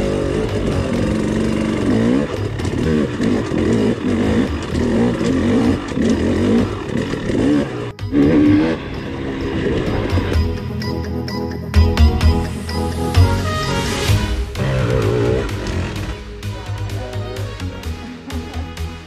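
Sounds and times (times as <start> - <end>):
dirt bike engine revving: 0.0 - 17.2.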